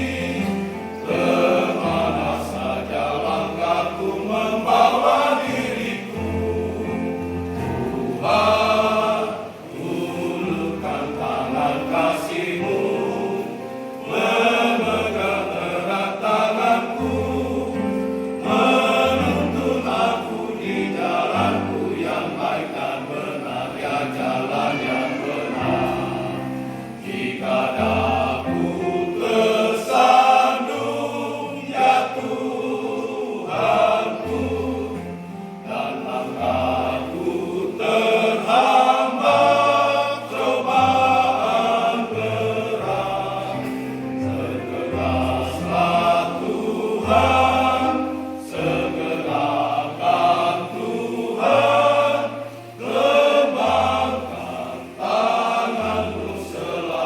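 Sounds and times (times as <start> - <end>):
church choir singing a hymn: 0.0 - 57.0.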